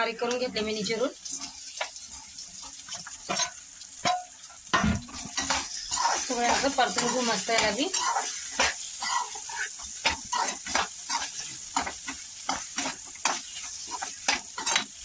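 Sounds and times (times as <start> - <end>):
oil sizzling: 0.0 - 15.0
metal spatula scraping a pan: 0.1 - 15.0.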